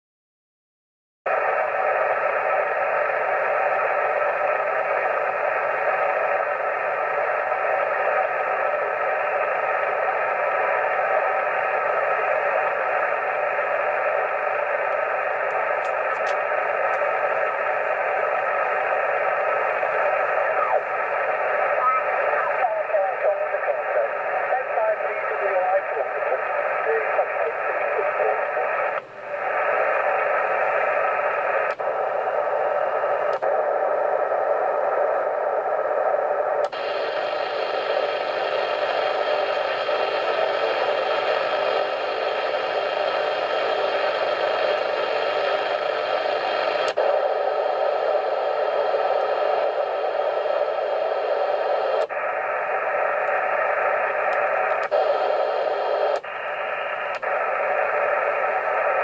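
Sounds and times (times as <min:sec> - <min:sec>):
radio interference hiss: 0:01.3 - 0:59.0.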